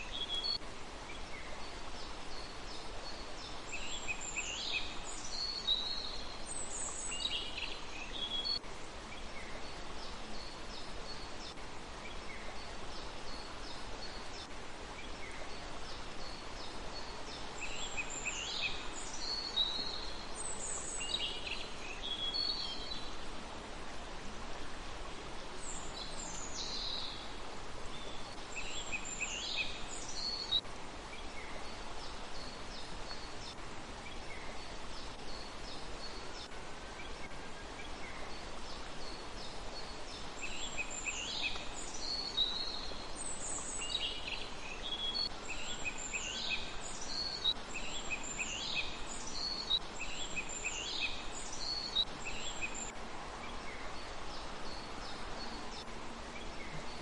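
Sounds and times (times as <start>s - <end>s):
outdoor hiss: 0.0s - 57.0s.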